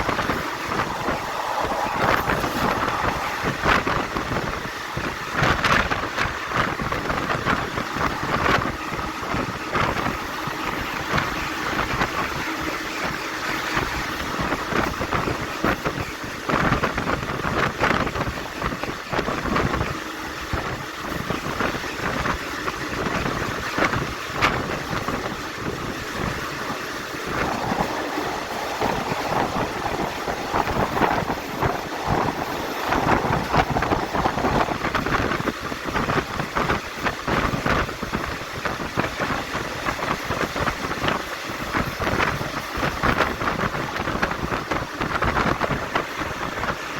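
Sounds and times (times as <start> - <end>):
train rolling at speed: 0.0 - 46.9
wheels and coach rattling: 0.0 - 46.9.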